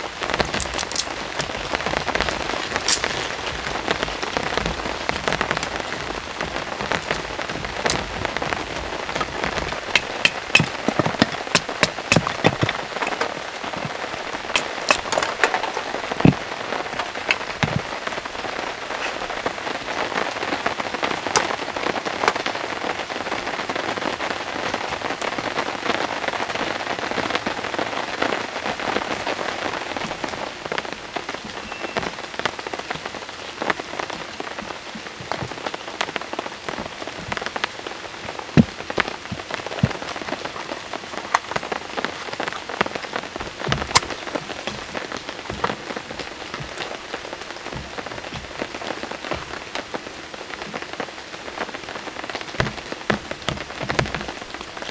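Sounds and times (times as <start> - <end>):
loud raindrops striking a surface: 0.0 - 54.9
steady rain falling: 0.0 - 54.9.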